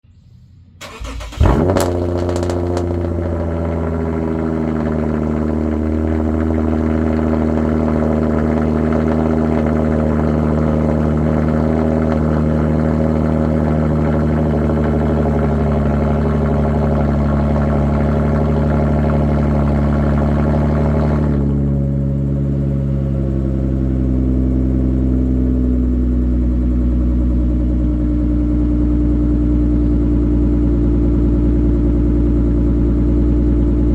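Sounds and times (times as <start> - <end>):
car engine cranking and starting: 0.8 - 33.9
car engine idling loudly: 0.8 - 33.9.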